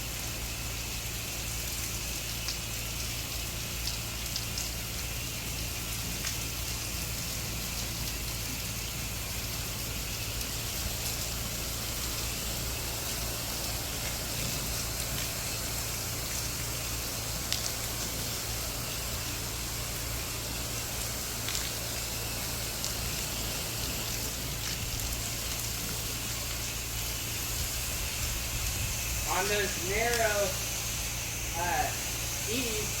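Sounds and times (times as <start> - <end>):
water spray hissing on walls: 0.0 - 33.0.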